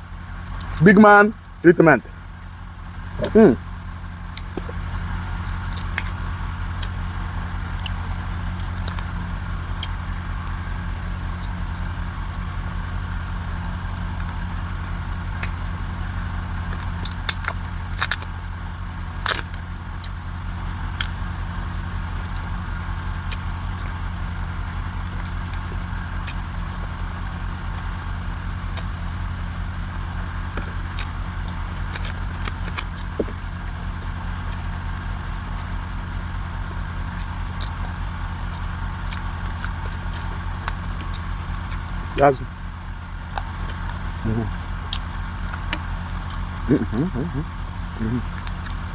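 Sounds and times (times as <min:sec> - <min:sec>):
low motor hum: 0:00.0 - 0:48.9.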